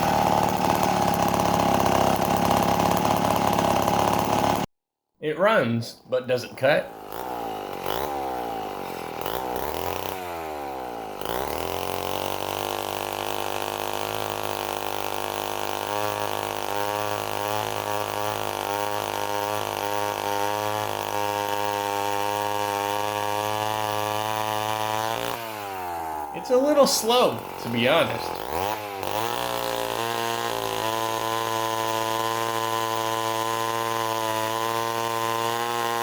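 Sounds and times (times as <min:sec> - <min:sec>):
chainsaw cutting wood: 0:00.0 - 0:04.7, 0:06.8 - 0:36.0.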